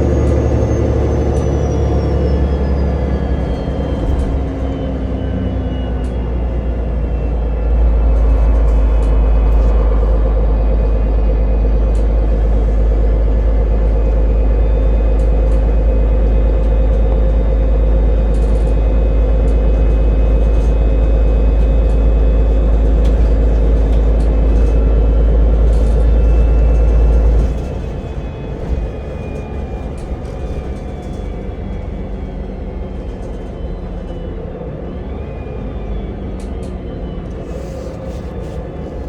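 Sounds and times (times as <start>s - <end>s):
vehicle ride rumble and hum: 0.0s - 39.0s.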